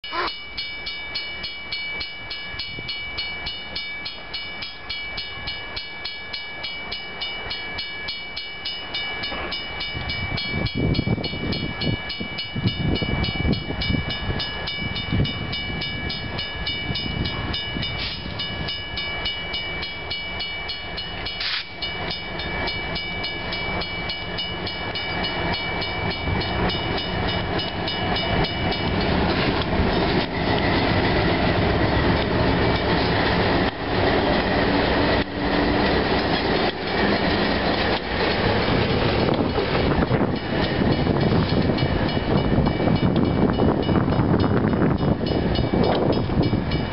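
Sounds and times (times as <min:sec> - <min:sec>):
diesel locomotives rumbling: 0:00.0 - 0:46.9
railway crossing bell ringing: 0:00.0 - 0:46.9.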